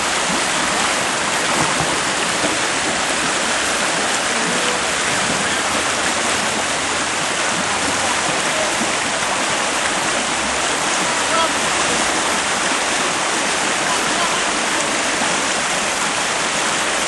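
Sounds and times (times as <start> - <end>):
river rapids roaring: 0.0 - 17.0.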